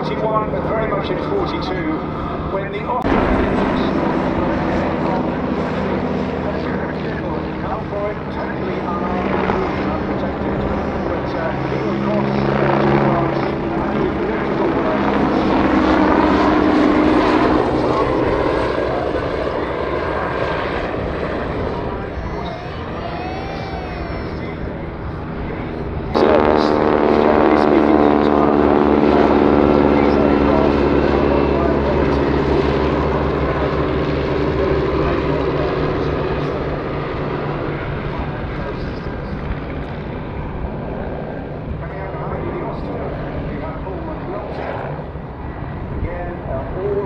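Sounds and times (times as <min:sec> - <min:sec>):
helicopter turbine and rotor: 0:00.0 - 0:47.0
light aircraft propeller engine: 0:00.0 - 0:47.0.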